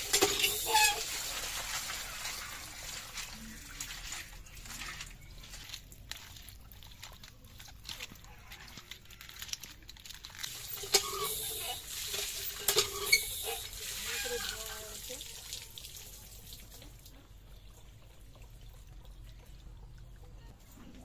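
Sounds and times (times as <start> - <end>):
water pouring and splashing: 0.0 - 21.0.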